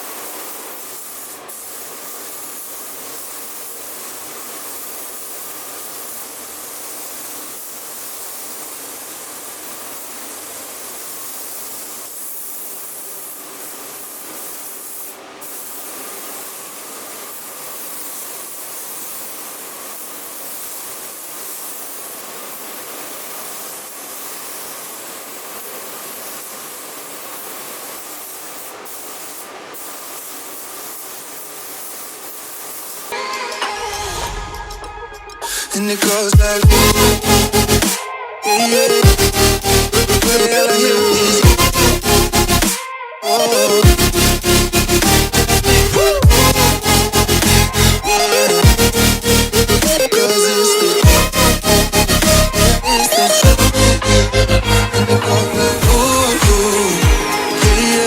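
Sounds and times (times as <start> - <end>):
paint spray gun hissing: 0.0 - 58.0.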